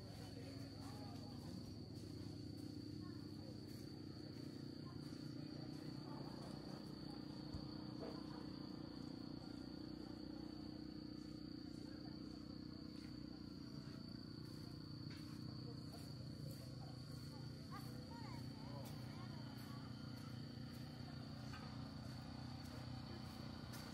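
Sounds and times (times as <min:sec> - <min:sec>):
crickets trilling: 0:00.0 - 0:23.9
faint distant voices: 0:00.0 - 0:23.9.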